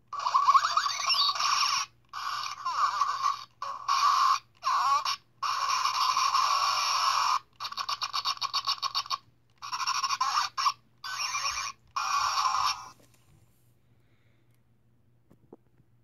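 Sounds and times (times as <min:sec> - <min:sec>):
toy sound effects from speaker: 0:00.1 - 0:13.0.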